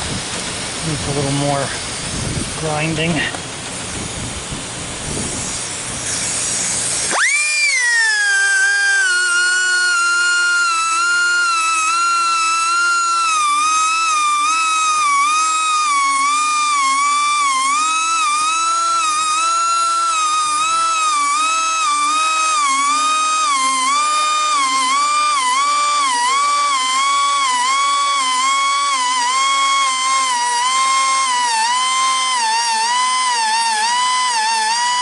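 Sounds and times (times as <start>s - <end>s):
high motor whine: 0.0s - 35.0s
hissing grind: 0.8s - 35.0s.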